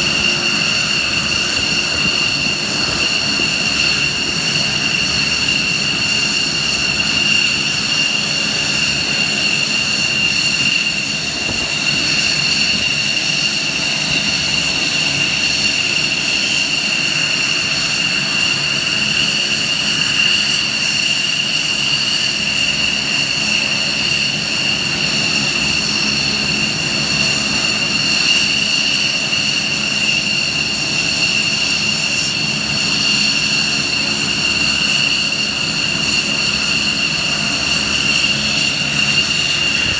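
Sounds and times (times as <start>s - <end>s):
turbine engines idling: 0.0s - 39.9s.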